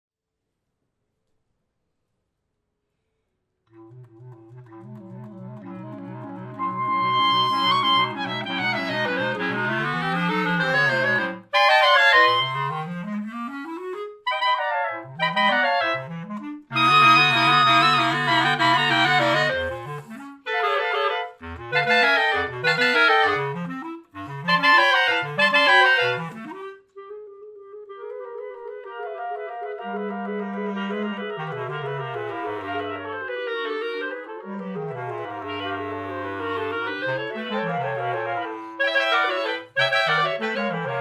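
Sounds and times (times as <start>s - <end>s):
clarinet quartet playing: 6.5s - 26.9s, 28.0s - 41.0s.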